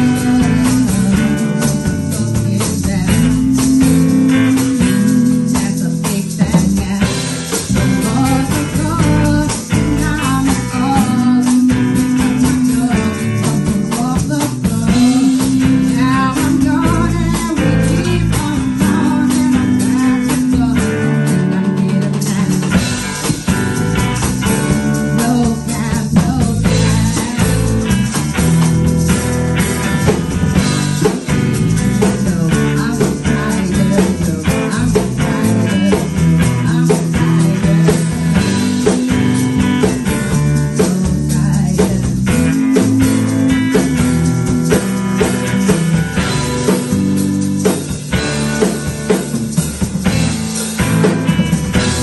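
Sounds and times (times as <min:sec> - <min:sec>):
acoustic guitar: 0:00.0 - 0:52.0
drum kit: 0:00.0 - 0:52.0
electric bass guitar: 0:00.0 - 0:52.0.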